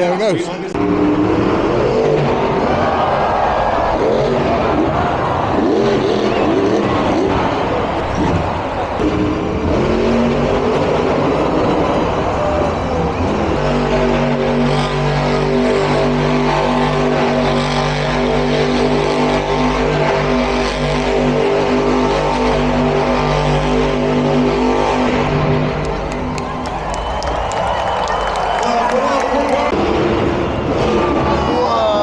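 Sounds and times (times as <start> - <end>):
monster truck engines revving: 0.0 - 32.0
steady engine drone: 0.0 - 32.0.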